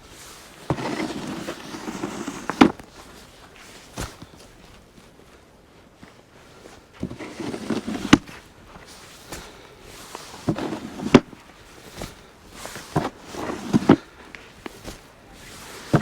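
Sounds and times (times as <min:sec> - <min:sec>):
crunching in deep snow: 0:00.0 - 0:16.0.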